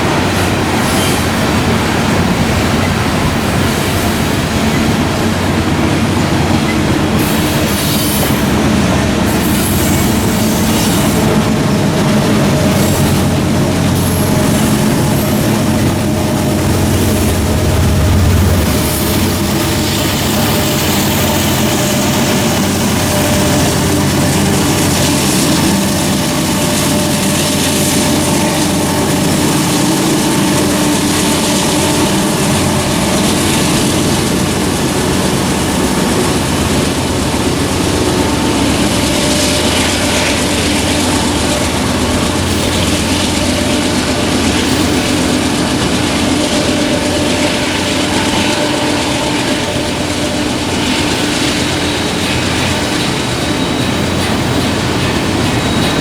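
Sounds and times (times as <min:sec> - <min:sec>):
diesel locomotive engine: 0:00.0 - 0:56.0
rail cars rumbling on track: 0:00.0 - 0:56.0.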